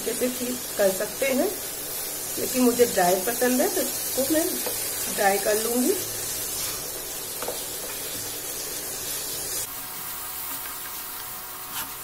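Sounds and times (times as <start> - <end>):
chickpeas sizzling in oil: 0.0 - 12.0.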